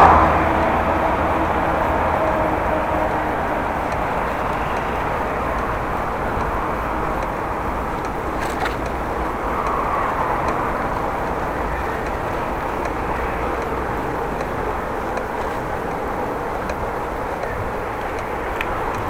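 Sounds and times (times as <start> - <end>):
bicycle ticking: 0.0 - 19.0
road noise: 0.0 - 19.0
wind on microphone: 0.0 - 19.0.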